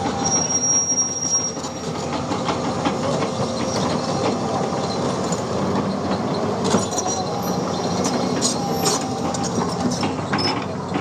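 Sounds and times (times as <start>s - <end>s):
excavator engine and hydraulics: 0.0s - 11.0s.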